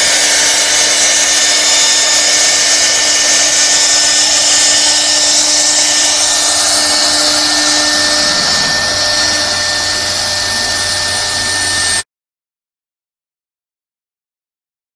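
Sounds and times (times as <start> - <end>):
router spindle whining and cutting wood: 0.0 - 12.0.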